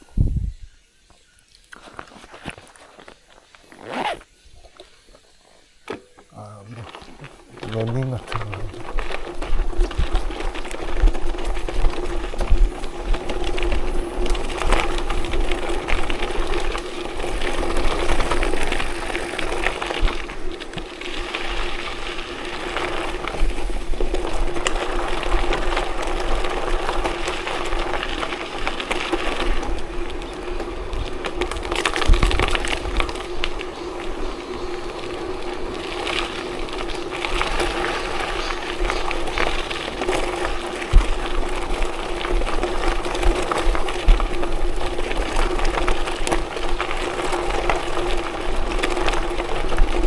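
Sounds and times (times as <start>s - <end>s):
wind buffeting microphone: 0.0s - 0.7s, 7.6s - 50.0s
tyres crunching on gravel: 1.2s - 50.0s.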